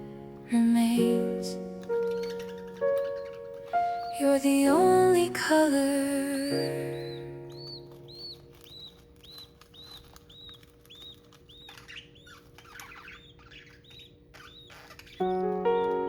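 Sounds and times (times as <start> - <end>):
budgies chirping: 0.9 - 4.9, 5.9 - 16.0
wing flutter: 1.8 - 15.6.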